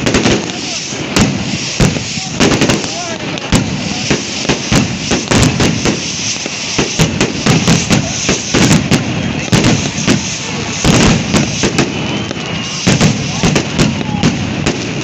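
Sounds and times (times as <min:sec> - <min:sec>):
bonfire crackling and popping: 0:00.0 - 0:15.0
flames rushing: 0:00.0 - 0:15.0.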